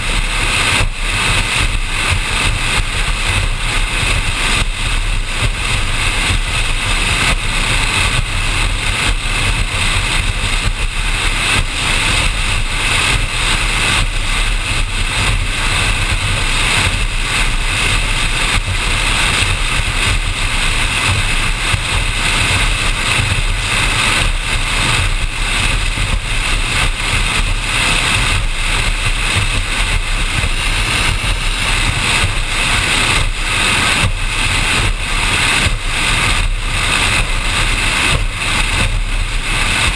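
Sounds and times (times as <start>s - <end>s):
powerboat engine drone: 0.0s - 39.9s
rushing wind: 0.0s - 39.9s
water rushing: 0.0s - 39.9s.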